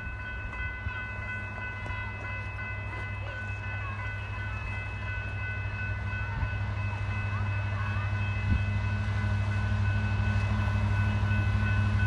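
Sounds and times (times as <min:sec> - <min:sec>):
diesel locomotive engine hum: 0:00.0 - 0:12.0
steady high ringing: 0:00.0 - 0:12.0.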